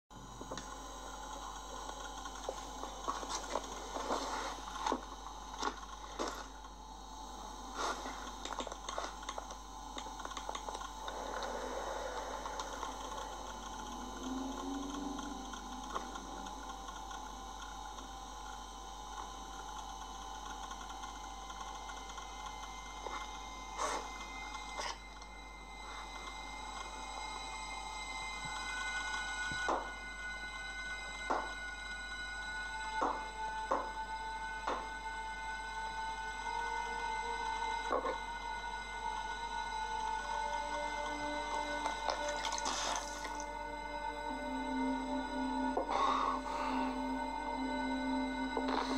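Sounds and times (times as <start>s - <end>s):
faint hum: 0.1s - 48.9s.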